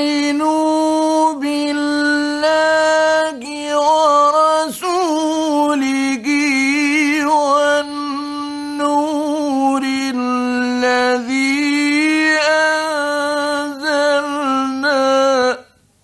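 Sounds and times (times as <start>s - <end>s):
man chanting melodically: 0.0s - 15.8s.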